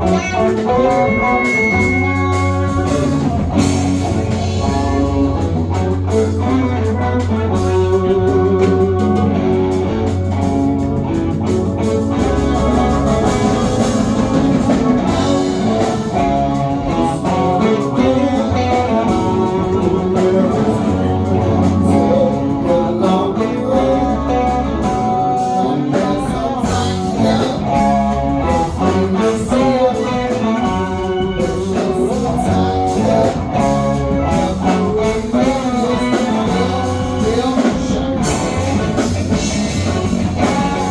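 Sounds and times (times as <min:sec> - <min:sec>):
bass line: 0:00.0 - 0:40.9
guitar: 0:00.0 - 0:40.9
person singing: 0:00.0 - 0:40.9.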